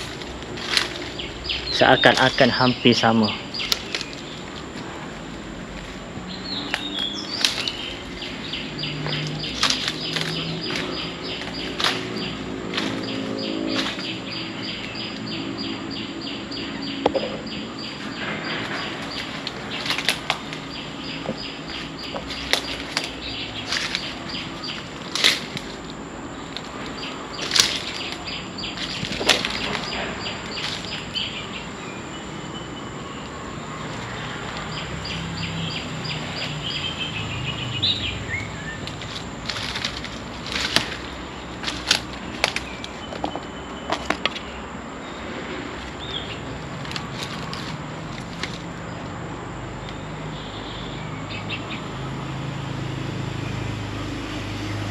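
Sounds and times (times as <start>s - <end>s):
footsteps on dry leaves and twigs: 0.0s - 49.4s
steady high whine: 0.0s - 50.2s.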